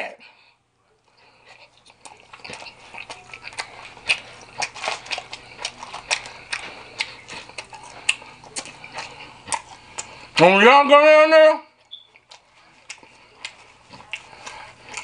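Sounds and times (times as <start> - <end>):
wet mouth chewing smacks: 1.0 - 10.4, 11.8 - 15.0.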